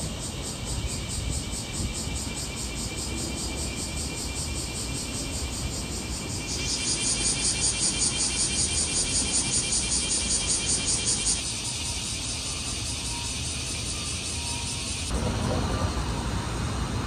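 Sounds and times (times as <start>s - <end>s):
cicadas pulsing: 0.0s - 17.0s
city traffic rumble: 0.0s - 17.0s.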